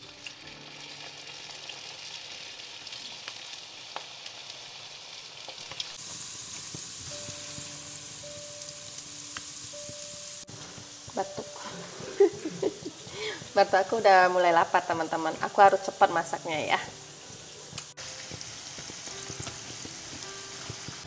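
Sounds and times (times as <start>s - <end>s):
food deep-frying in oil: 0.0s - 21.0s.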